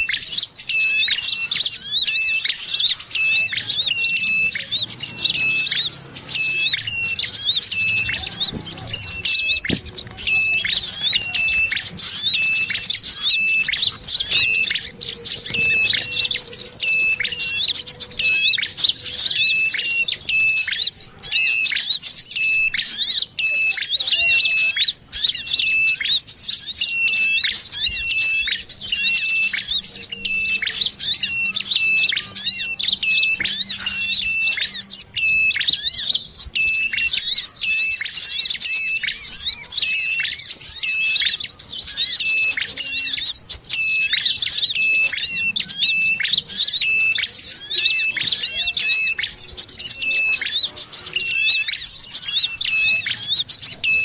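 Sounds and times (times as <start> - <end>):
songbirds chattering: 0.0 - 54.0.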